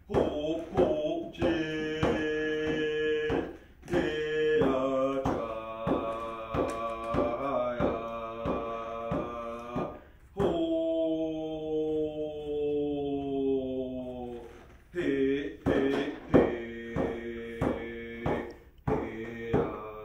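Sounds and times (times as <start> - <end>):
man singing long held notes: 0.0 - 20.0.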